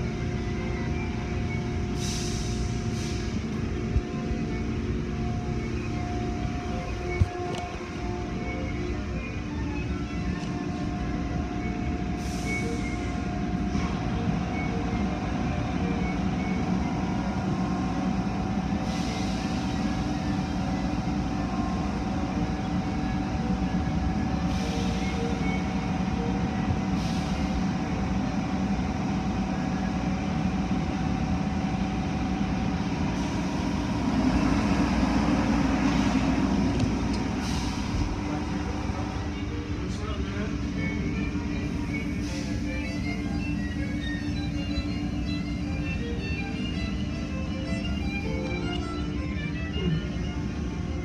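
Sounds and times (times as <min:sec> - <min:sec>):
car wash machinery drone: 0:00.0 - 0:51.0.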